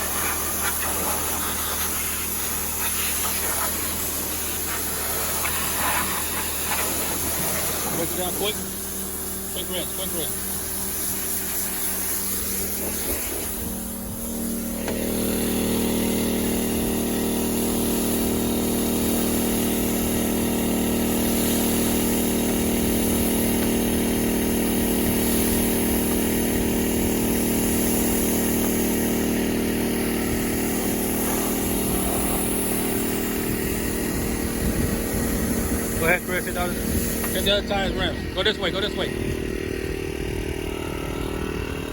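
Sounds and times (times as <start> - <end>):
pressure washer engine running: 0.0 - 41.9.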